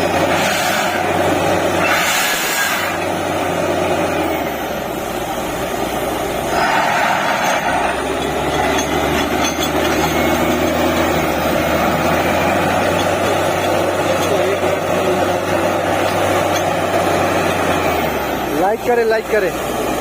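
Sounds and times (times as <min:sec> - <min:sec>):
diesel engine hum: 0:00.0 - 0:20.0
drilling rig mechanical noise: 0:00.0 - 0:20.0.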